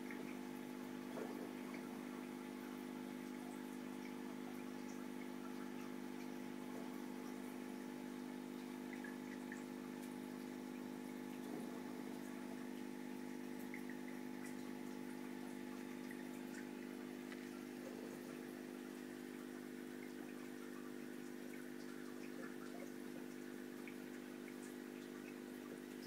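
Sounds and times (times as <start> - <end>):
aquarium pump humming: 0.0 - 26.0
water trickling: 0.0 - 26.0.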